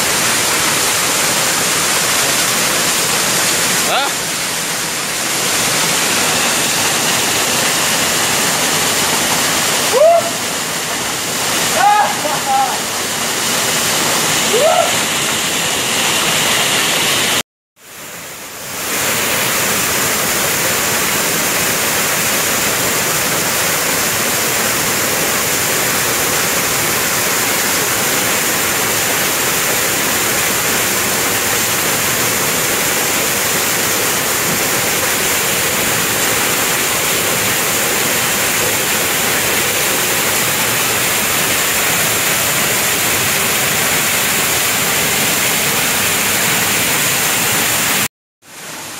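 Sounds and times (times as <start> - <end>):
waterfall and stream rushing: 0.0 - 48.9.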